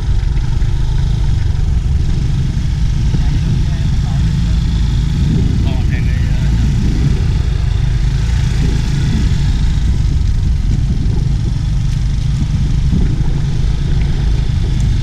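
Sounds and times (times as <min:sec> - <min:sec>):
motor scooter engine rumble: 0:00.0 - 0:15.0.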